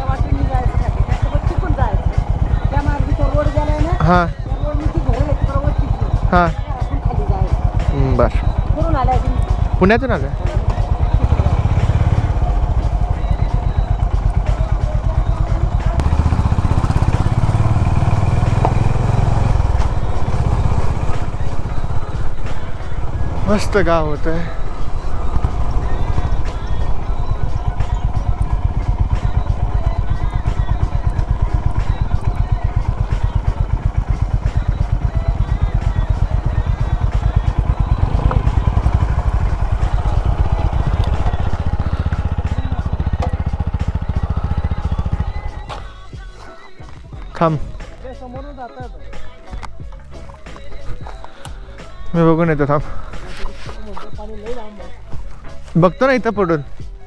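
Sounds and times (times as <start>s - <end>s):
motorcycle engine thumping: 0.0s - 57.0s.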